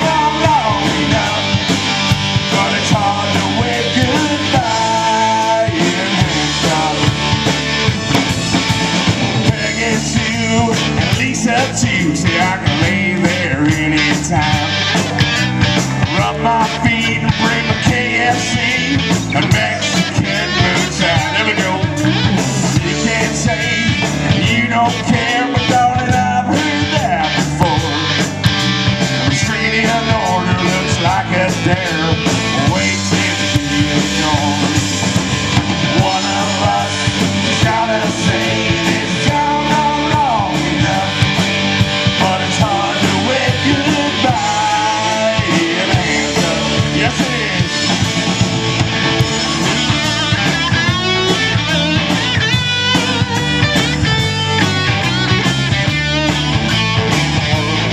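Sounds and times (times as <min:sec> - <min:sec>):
bass guitar: 0:00.0 - 0:57.9
drum beat: 0:00.0 - 0:57.9
lead electric guitar: 0:00.0 - 0:57.9.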